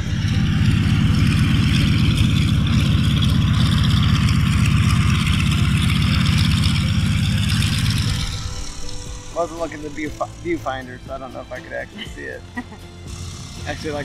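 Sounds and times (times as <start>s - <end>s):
twin-engine airplane taxiing: 0.0s - 14.0s.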